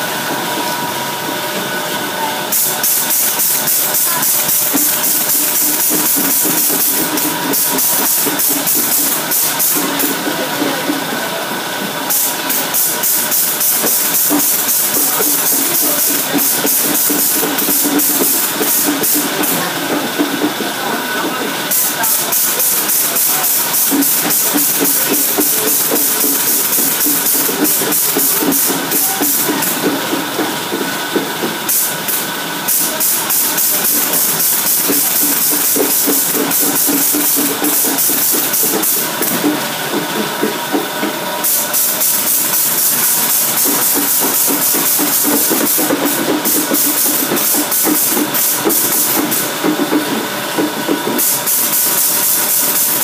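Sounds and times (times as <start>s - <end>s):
machine hissing pulses: 2.4s - 11.4s, 12.0s - 53.0s
machine clattering: 2.5s - 53.0s.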